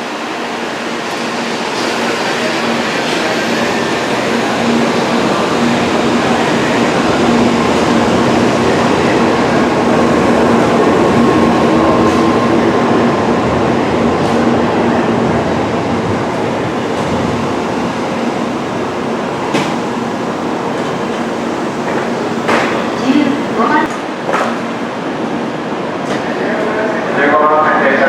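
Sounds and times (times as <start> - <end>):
train wheels rumbling: 0.0 - 27.0
train motor hum: 0.2 - 23.9.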